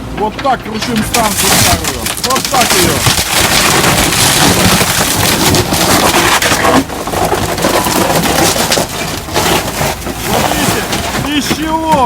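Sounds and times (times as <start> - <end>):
tank shell cracking and crunching: 0.4 - 12.0.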